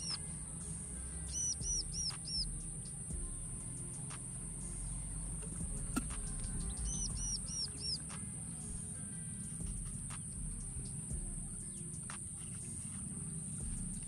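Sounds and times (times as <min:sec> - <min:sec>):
songbird calling high notes: 0:00.0 - 0:14.0
steady high hiss: 0:00.0 - 0:14.0.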